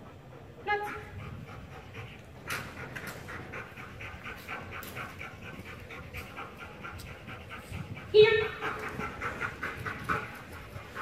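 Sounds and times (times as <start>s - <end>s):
dog panting rapidly: 0.0s - 11.0s.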